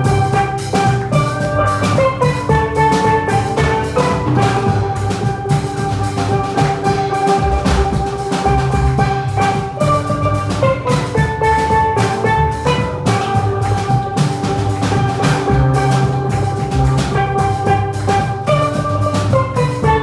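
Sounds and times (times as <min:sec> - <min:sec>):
drum kit beat: 0:00.0 - 0:20.0
steelpan band music: 0:00.0 - 0:20.0.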